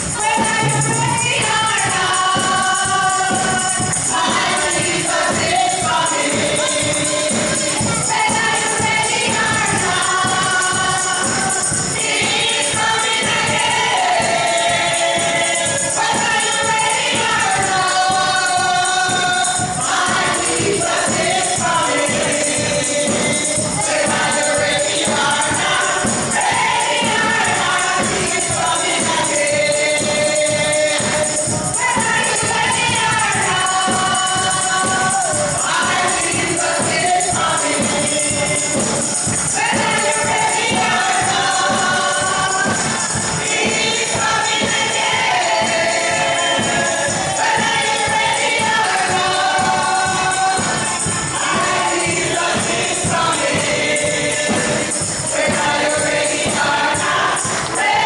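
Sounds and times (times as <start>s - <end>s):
tambourine jingling: 0.0s - 58.0s
women singing in harmony: 0.0s - 58.0s.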